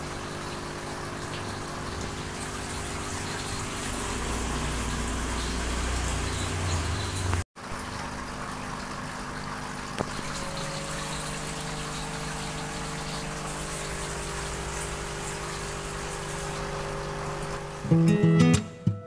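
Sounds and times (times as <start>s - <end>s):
aquarium pump water rushing: 0.0s - 18.2s.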